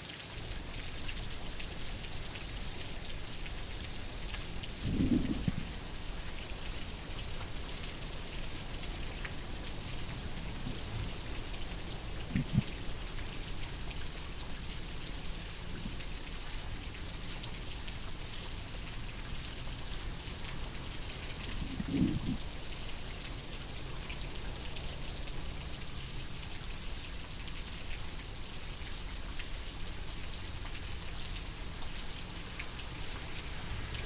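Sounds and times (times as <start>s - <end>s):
rain pattering: 0.0s - 34.0s.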